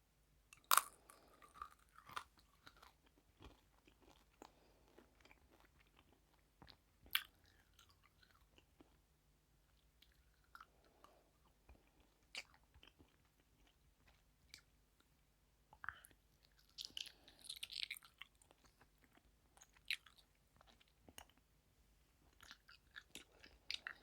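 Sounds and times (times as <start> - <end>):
chewing with crunches: 0.6 - 9.1, 9.7 - 15.1, 15.8 - 21.5, 22.2 - 24.0.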